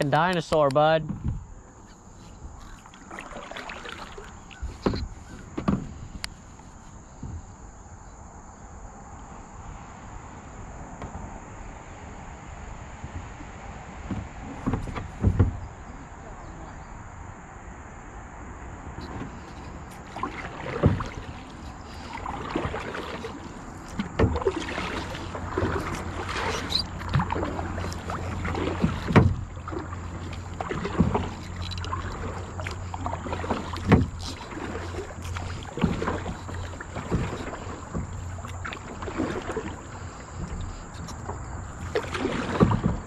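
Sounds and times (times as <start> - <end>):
kayak paddle splashing: 0.0 - 8.0, 9.0 - 17.0, 18.6 - 43.0.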